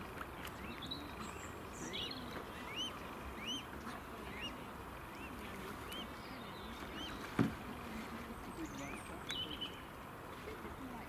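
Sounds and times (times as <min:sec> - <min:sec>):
waterbird chick peeping: 0:00.0 - 0:11.0.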